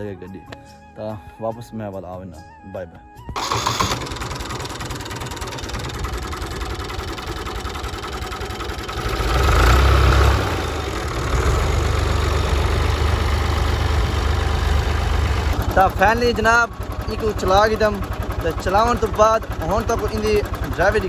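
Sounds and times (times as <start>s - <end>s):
tractor diesel engine running: 3.4s - 21.0s.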